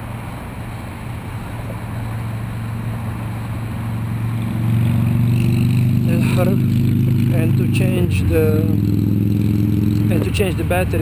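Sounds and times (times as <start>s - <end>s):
drone rotors humming: 0.0s - 11.0s.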